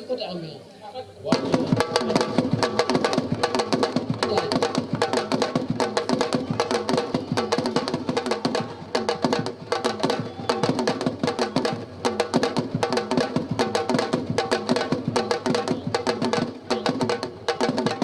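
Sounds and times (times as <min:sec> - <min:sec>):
fast slapping hand drums: 0:01.3 - 0:18.0.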